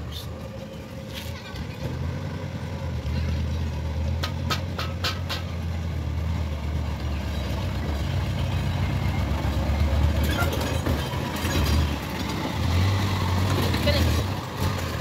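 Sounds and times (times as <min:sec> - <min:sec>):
diesel engine rumble: 0:00.0 - 0:15.0
vehicle rattle: 0:01.0 - 0:05.9, 0:07.0 - 0:15.0.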